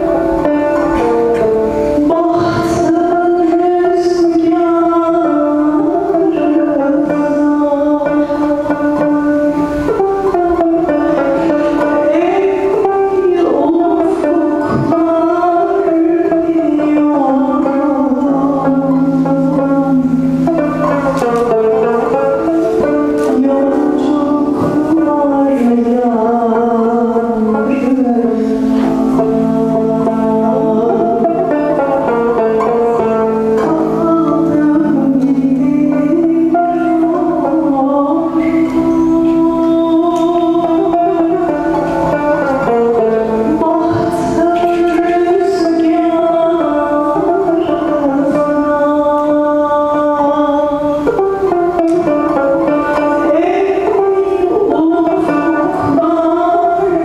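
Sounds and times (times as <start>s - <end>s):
slow melody: 0.0s - 57.0s.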